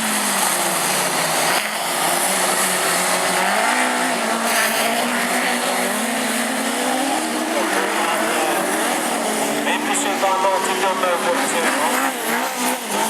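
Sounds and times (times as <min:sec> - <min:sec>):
race car engines racing past: 0:00.0 - 0:13.0.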